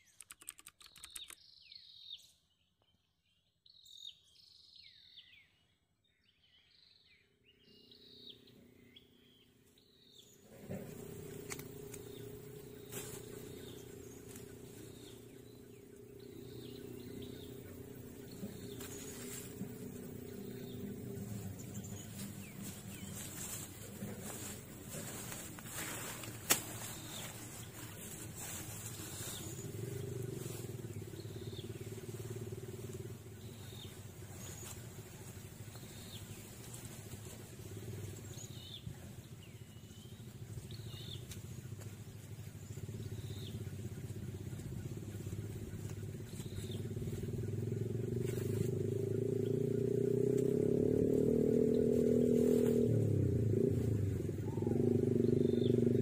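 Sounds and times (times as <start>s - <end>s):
small engine running: 10.3s - 56.0s.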